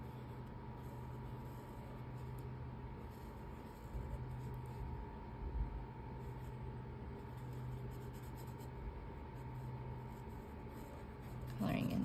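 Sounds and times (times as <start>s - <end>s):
electrical hum with high tone: 0.0s - 12.0s.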